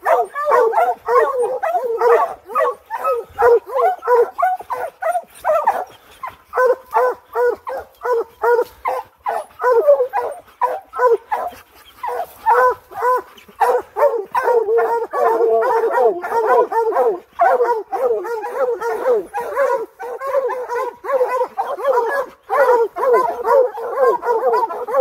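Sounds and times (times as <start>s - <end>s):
hounds barking: 0.0s - 25.0s.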